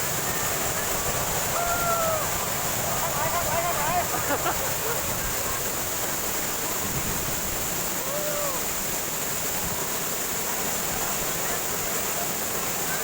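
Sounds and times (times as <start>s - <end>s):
rushing flowing water: 0.0s - 13.0s.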